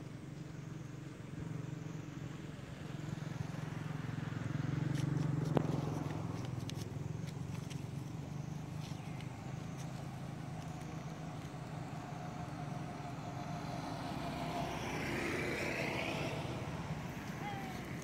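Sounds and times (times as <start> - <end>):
engine running steadily: 0.0 - 18.0
vehicle passing by: 0.8 - 18.0.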